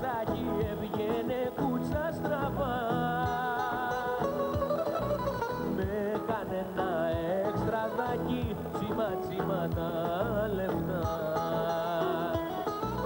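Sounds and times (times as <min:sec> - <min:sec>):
acoustic guitars strummed and plucked: 0:00.0 - 0:13.0
bouzouki: 0:00.0 - 0:13.0
man singing: 0:00.0 - 0:13.0.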